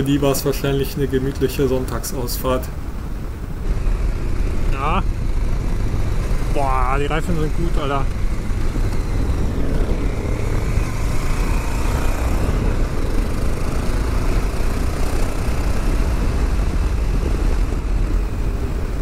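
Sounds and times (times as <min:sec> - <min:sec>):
wind rushing on microphone: 0:01.5 - 0:19.0
motorcycle engine running: 0:02.5 - 0:19.0.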